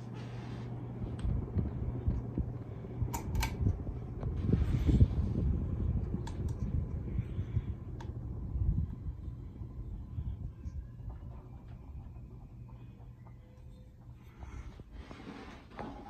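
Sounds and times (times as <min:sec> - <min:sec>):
ceiling fan rumbling: 0:00.0 - 0:16.0.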